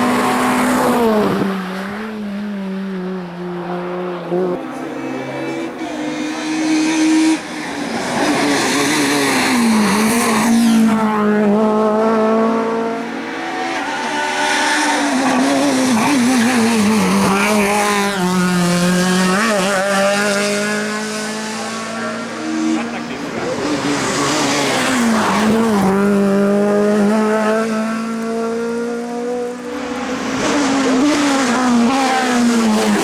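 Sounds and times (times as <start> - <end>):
racing car engine at high revs: 0.0 - 33.0.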